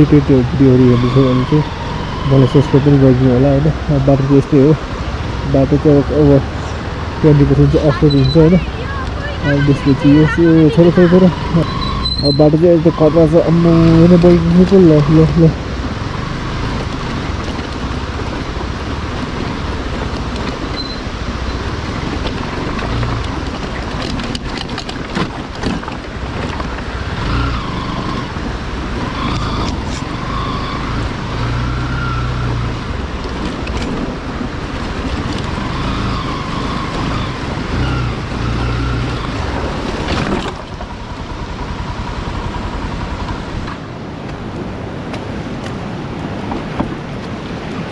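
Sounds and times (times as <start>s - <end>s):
motorcycle engine running: 0.0s - 44.5s
wind rushing on microphone: 0.0s - 47.9s.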